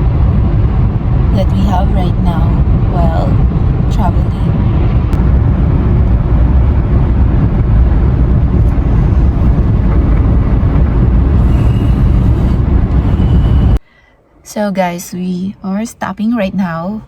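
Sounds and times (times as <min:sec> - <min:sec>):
car road and engine rumble: 0:00.0 - 0:13.8.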